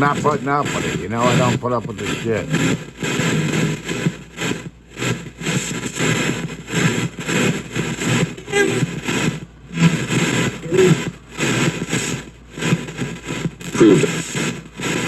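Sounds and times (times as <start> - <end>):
radio static and broadcast snatches: 0.0 - 15.0.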